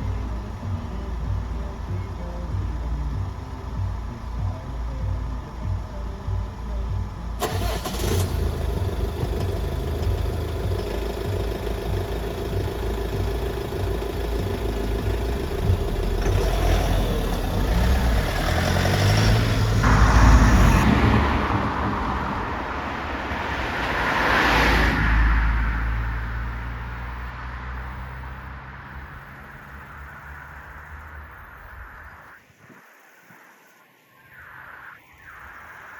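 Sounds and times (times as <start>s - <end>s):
vehicle engine running: 0.0s - 32.2s
vehicles driving past: 0.0s - 32.4s.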